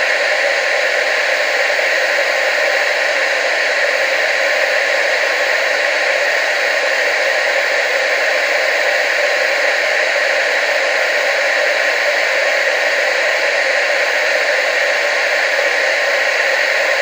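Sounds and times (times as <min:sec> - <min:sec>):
tv static hiss: 0:00.0 - 0:17.0.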